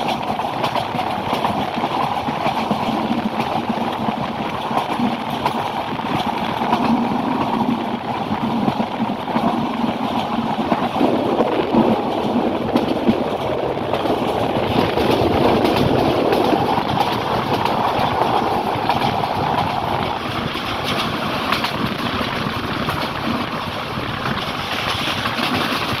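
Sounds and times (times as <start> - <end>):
train carriage rumbling and rattling: 0.0 - 26.0.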